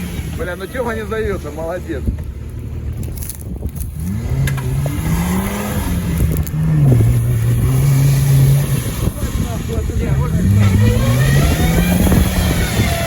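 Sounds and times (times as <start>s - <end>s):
car engine revving under load: 0.0s - 13.0s.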